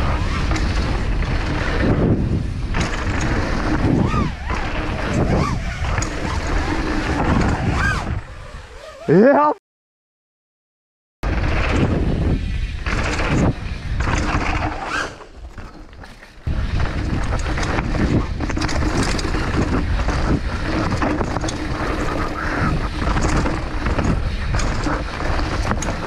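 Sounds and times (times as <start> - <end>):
bike rattling over roots: 0.0 - 9.1, 11.3 - 26.0
wind rumbling on camera: 0.0 - 9.1, 11.2 - 26.0
bike tyres on dirt and stones: 0.0 - 9.4, 11.2 - 26.0.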